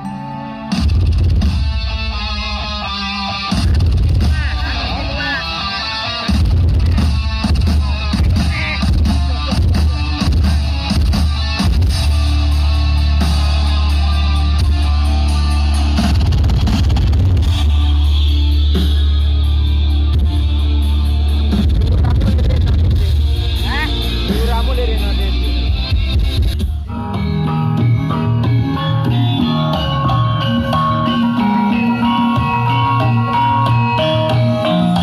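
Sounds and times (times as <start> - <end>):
loud guitar and drum music: 0.0 - 35.0
heavy steady bass: 0.7 - 35.0.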